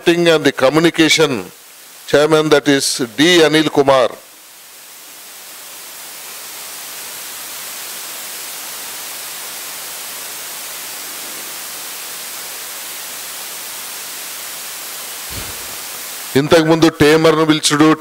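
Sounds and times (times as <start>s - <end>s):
electronic static hiss: 0.0s - 18.0s.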